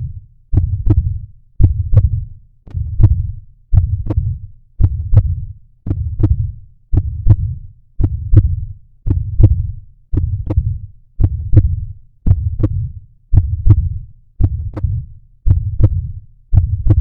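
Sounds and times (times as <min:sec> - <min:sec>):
heartbeat thumps: 0:00.0 - 0:17.0.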